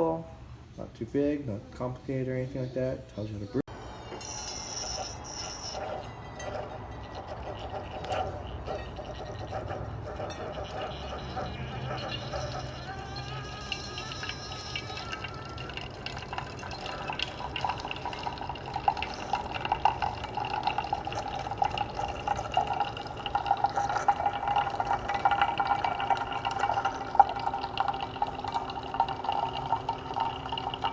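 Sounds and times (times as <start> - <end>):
coffee streaming into a cup: 3.7 - 30.9.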